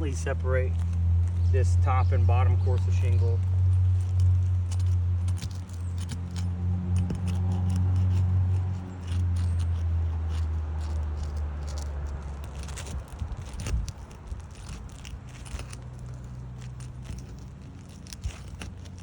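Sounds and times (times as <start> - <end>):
small clicks crackles and scrapes: 0.0 - 19.0
steady low hum: 0.0 - 19.0
roof shingles being pried apart: 3.2 - 19.0.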